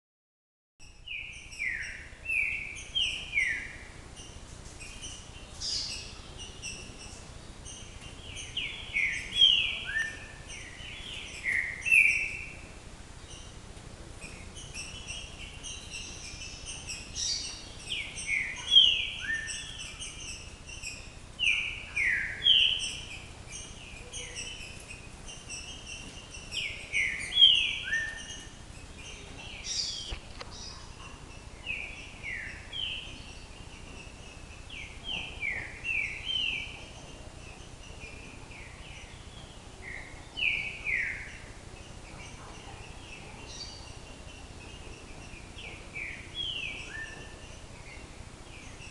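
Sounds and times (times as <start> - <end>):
high bird twittering: 0.8 - 12.6, 14.2 - 48.0.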